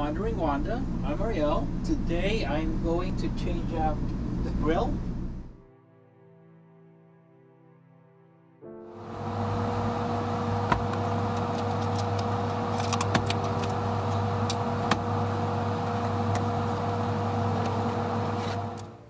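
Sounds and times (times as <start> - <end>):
mechanical hum: 0.0 - 5.6, 9.0 - 19.0.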